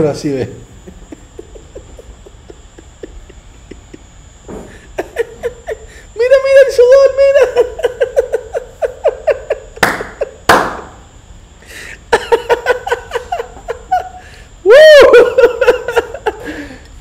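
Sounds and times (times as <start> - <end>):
man laughing hard: 0.7 - 10.5, 12.0 - 16.8.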